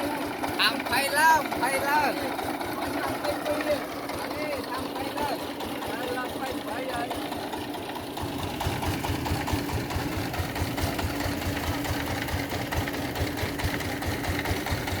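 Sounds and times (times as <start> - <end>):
small engine chugging: 0.0 - 15.0.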